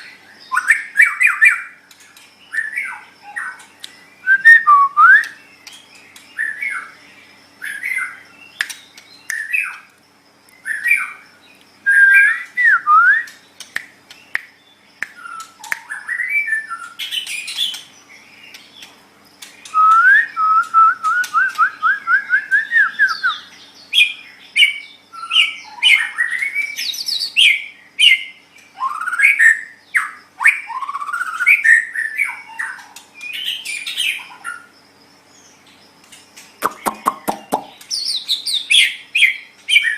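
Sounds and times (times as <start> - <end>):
songbird whistling and chattering: 0.0 - 1.8, 2.5 - 7.0, 7.6 - 9.9, 10.6 - 18.8, 19.6 - 34.7, 36.5 - 39.9.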